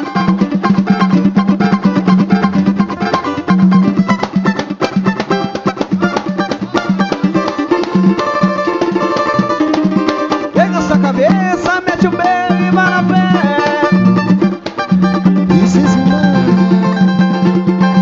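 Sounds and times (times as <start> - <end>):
busy percussion rhythm: 0.0 - 18.0
plucked strings: 0.0 - 18.0.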